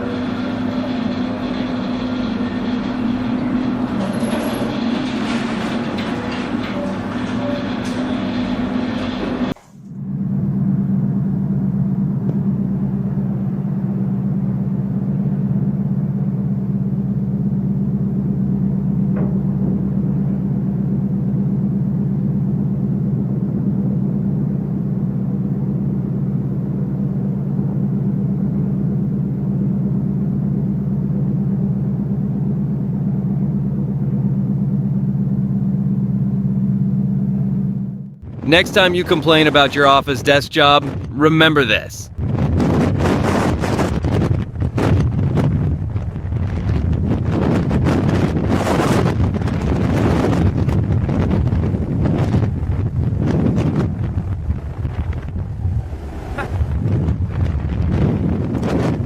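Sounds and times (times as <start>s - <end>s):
ship engine drone: 0.0s - 59.0s.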